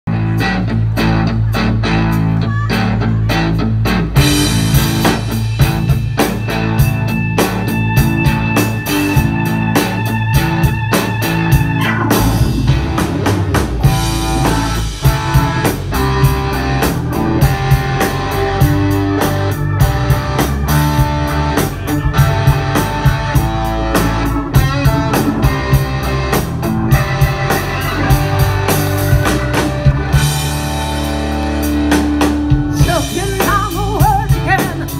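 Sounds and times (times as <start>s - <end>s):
drum kit steady beat: 0.1s - 34.9s
electric guitars: 0.1s - 34.9s
keyboard: 0.1s - 34.9s.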